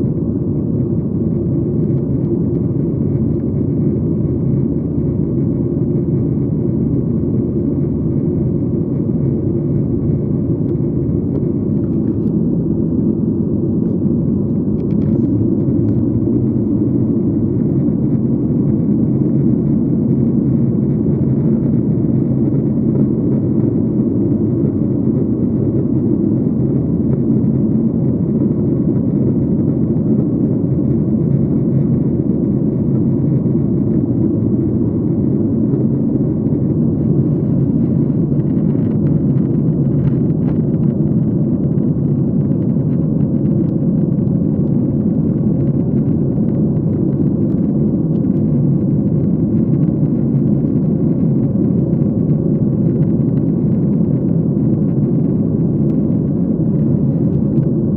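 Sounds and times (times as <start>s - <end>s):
airliner cabin drone: 0.0s - 57.9s.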